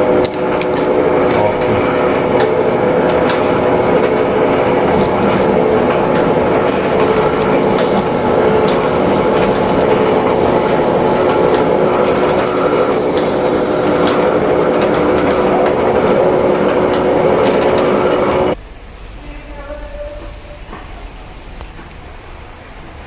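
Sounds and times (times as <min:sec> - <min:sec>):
lathe humming: 0:00.0 - 0:18.6.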